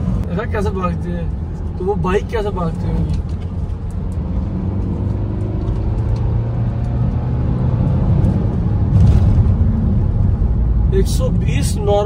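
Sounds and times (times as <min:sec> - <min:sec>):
road rumble: 0:00.0 - 0:12.0
car engine accelerating: 0:01.2 - 0:12.0.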